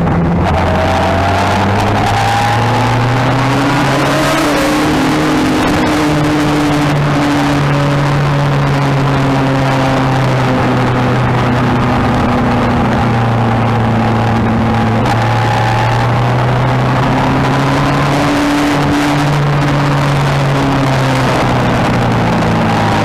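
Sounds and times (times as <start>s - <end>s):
continuous rushing noise: 0.0s - 23.0s
motorcycle engine running: 0.0s - 23.0s.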